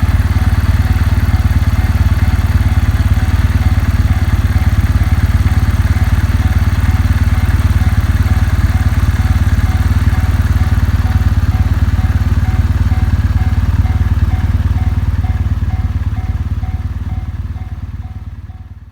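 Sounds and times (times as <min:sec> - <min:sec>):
motorcycle engine idling: 0:00.0 - 0:18.9
level crossing warning bell: 0:00.1 - 0:18.9.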